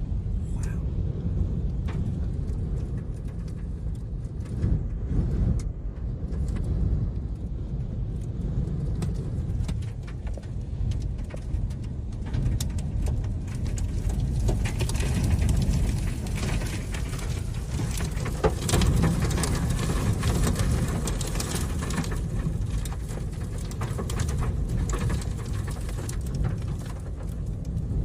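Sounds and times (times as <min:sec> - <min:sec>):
wind gusts buffeting vehicle: 0:00.0 - 0:28.0
debris ticking on vehicle: 0:01.7 - 0:28.0.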